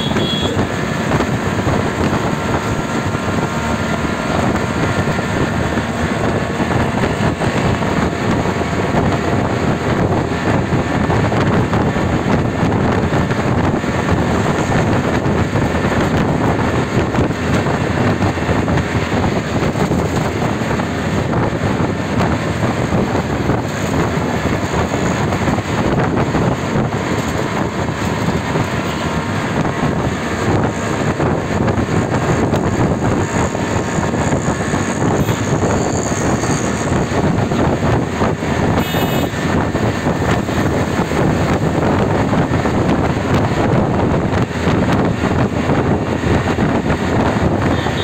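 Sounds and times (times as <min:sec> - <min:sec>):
vehicle road and engine noise: 0:00.0 - 0:48.0
wind buffeting microphone: 0:00.0 - 0:48.0.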